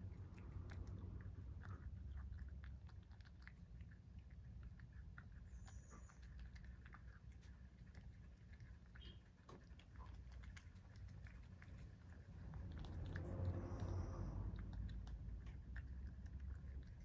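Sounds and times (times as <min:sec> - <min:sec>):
cat chewing and licking: 0:00.0 - 0:17.0
low steady hum: 0:00.0 - 0:17.0.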